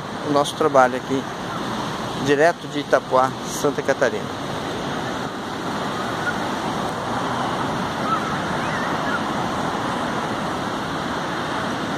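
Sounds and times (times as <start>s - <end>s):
ocean surf breaking: 0.0s - 11.9s.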